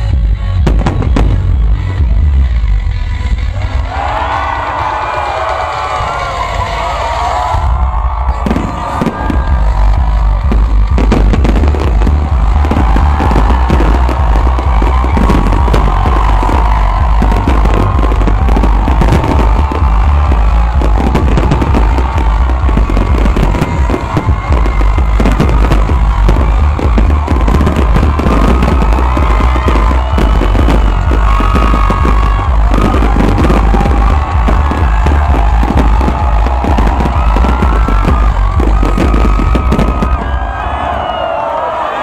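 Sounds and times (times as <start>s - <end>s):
music playing: 0.0s - 40.8s
fireworks booming and crackling: 0.1s - 2.6s, 6.4s - 41.1s.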